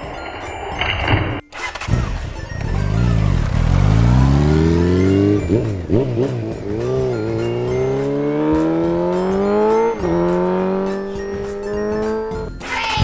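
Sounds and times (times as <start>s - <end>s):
race car engine accelerating: 0.7s - 12.6s.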